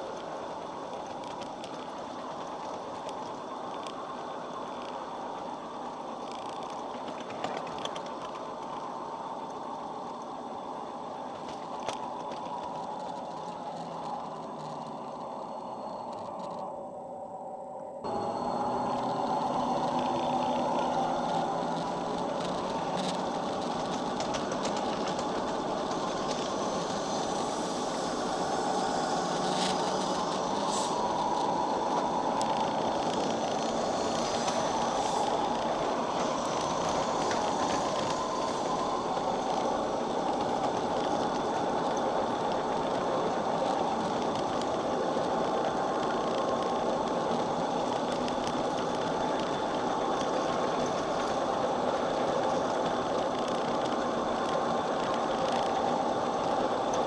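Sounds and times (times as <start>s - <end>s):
model locomotive running on rails: 0.0s - 57.0s.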